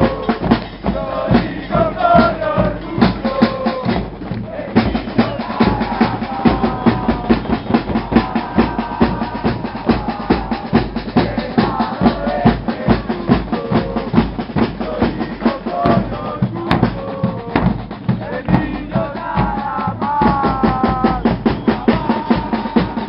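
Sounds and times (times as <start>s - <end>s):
crowd chanting: 0.0s - 23.0s
drum band beating: 0.0s - 23.0s.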